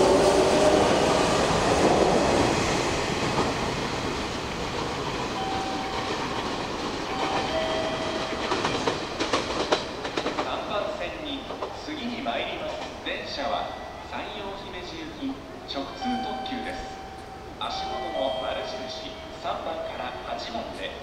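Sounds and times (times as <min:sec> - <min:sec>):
train running: 0:00.0 - 0:21.0.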